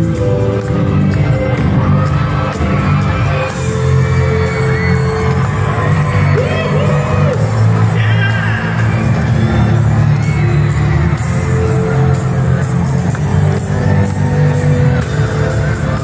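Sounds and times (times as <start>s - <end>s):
audience whooping and cheering: 0.0s - 16.0s
loud live music with bass: 0.0s - 16.0s.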